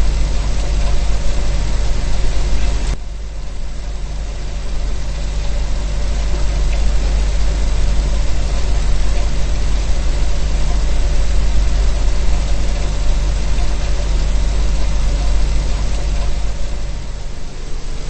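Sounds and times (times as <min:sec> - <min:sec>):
refrigerant hiss: 0:00.0 - 0:18.0
refrigerator hum: 0:00.0 - 0:18.0.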